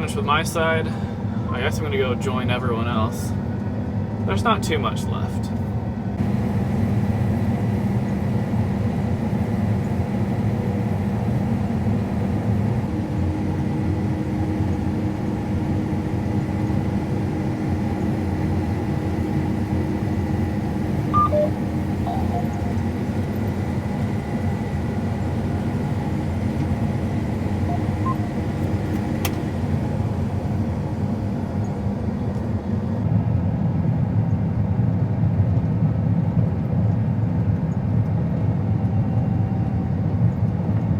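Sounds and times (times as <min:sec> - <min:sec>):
diesel engine droning: 0:00.0 - 0:33.1.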